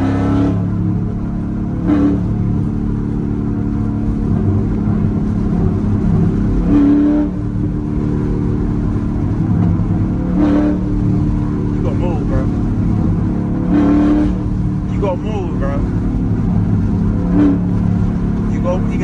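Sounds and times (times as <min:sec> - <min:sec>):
car exhaust droning: 0:00.0 - 0:19.0
road and wind noise: 0:00.0 - 0:19.0.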